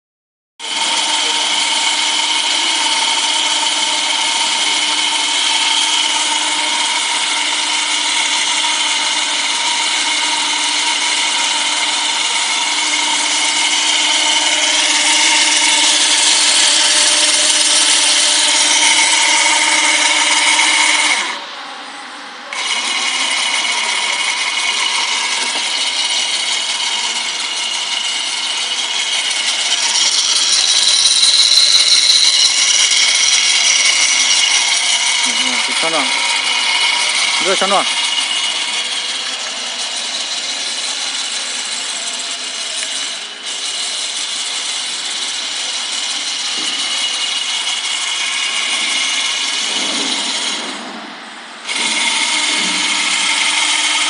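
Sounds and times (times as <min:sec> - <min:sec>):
electric winch motor whining: 0:00.6 - 0:21.7, 0:22.3 - 0:54.0.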